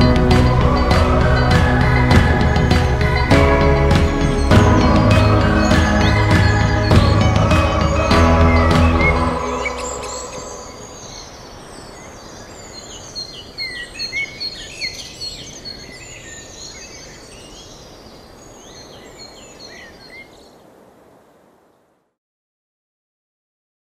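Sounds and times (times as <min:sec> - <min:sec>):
small birds chirping: 0:00.0 - 0:20.6
steady background hiss: 0:00.0 - 0:22.2.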